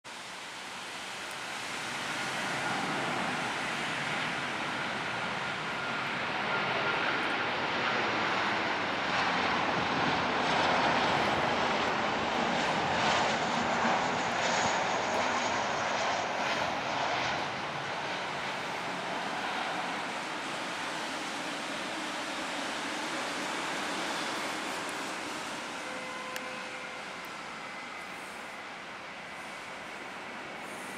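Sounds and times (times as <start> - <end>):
jet airliner on approach: 0.1 - 30.9.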